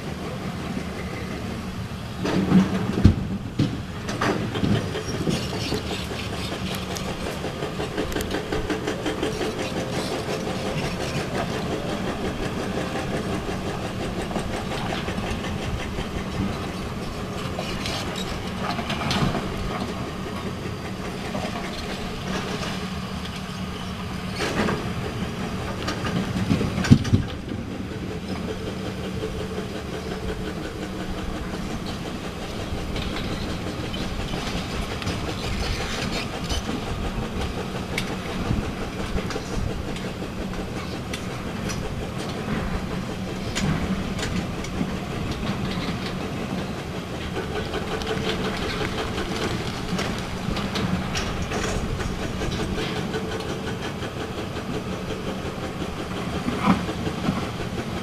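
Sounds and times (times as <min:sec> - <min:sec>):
diesel engines running: 0:00.0 - 0:58.0
dozer pushing rock clatter: 0:00.0 - 0:58.0.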